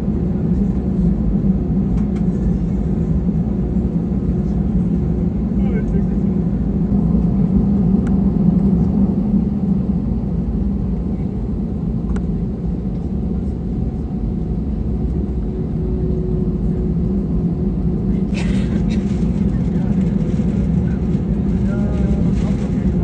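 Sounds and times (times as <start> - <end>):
jet engine cabin rumble: 0.0 - 23.0.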